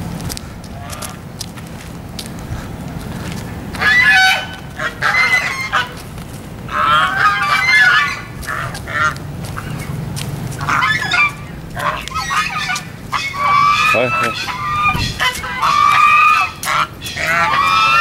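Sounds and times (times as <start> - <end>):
geese honking: 0.7 - 1.3, 2.6 - 18.0.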